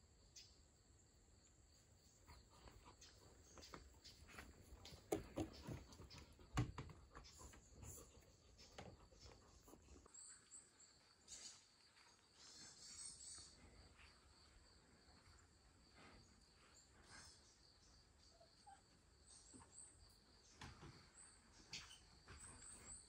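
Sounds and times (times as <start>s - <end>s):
faint bird chirps and trills: 0.0s - 15.5s, 16.2s - 23.0s.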